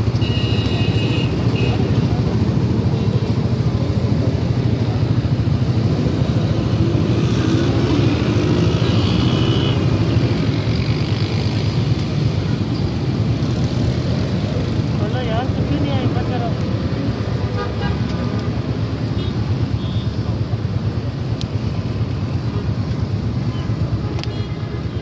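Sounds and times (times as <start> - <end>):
road traffic rumble: 0.0 - 25.0
vehicle engines running nearby: 0.0 - 25.0.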